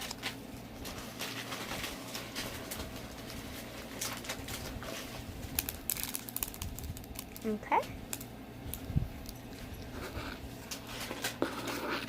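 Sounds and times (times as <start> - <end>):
foam beads pattering: 0.0 - 11.8.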